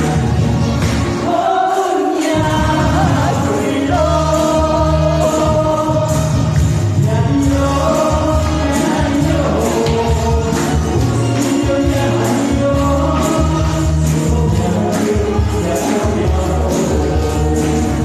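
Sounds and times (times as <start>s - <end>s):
pop song with singing: 0.0s - 18.0s
steady bass beat: 2.4s - 18.0s.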